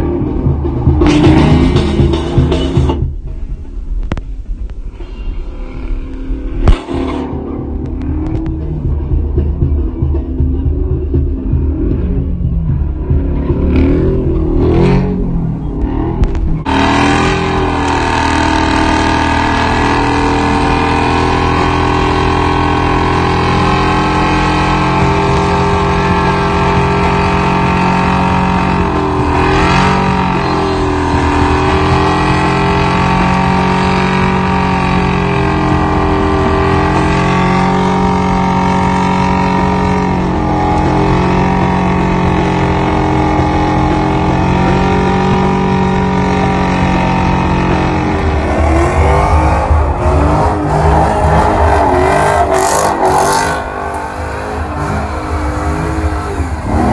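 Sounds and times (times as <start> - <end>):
vehicle engine at high revs: 11.1 - 56.9.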